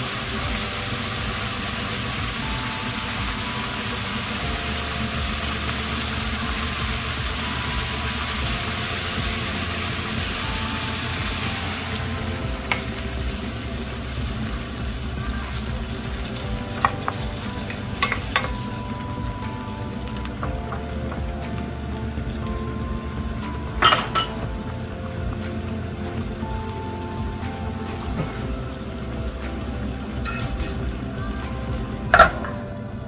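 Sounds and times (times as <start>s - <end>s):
food sizzling in a pan: 0.0s - 32.6s
low steady rumble: 0.0s - 33.0s.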